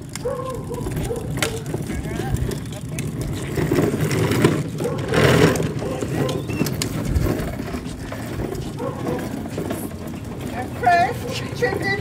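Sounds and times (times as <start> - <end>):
plastic wheels rattling on concrete: 0.0 - 12.0.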